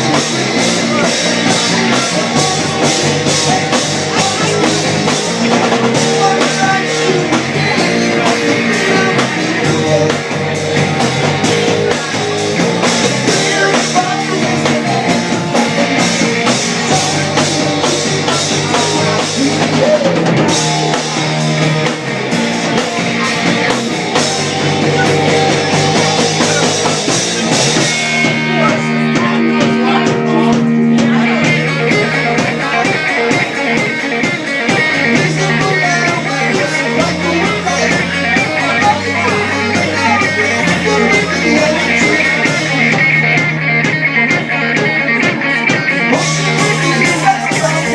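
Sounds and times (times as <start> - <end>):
bass guitar: 0.0 - 47.9
drums: 0.0 - 47.9
electric guitar: 0.0 - 47.9.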